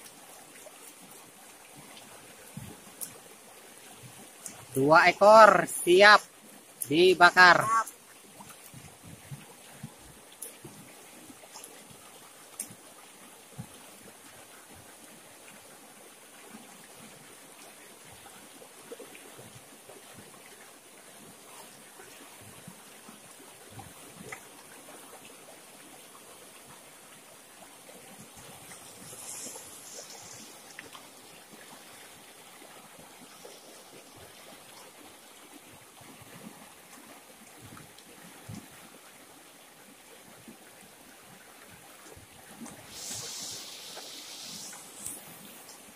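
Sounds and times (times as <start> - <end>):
river water splashing over stones: 0.0 - 45.9.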